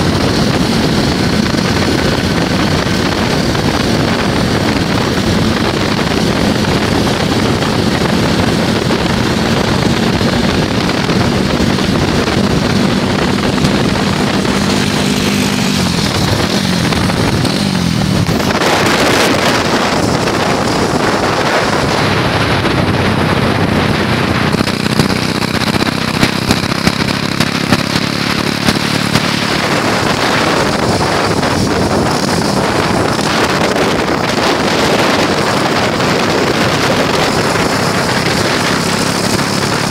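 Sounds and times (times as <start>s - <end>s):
small engine running: 0.0s - 39.9s
wind buffeting microphone: 0.0s - 39.9s.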